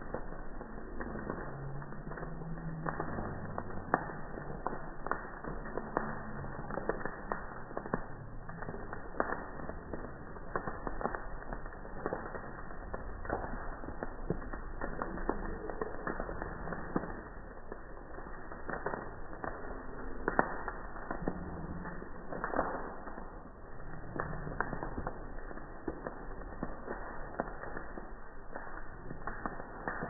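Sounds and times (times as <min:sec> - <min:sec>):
campfire wood crackling: 0:00.0 - 0:30.0.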